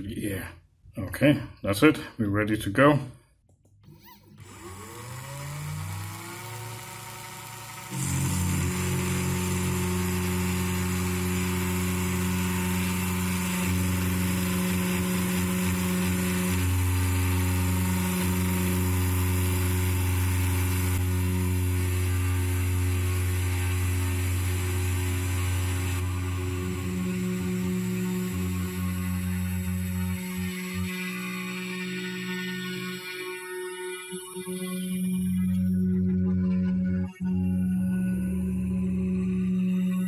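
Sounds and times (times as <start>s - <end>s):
router spindle whining: 3.9s - 40.0s.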